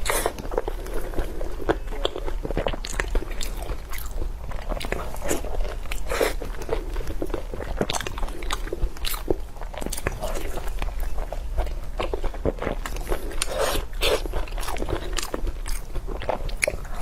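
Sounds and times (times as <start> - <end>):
person biting and chewing food: 0.0 - 17.0.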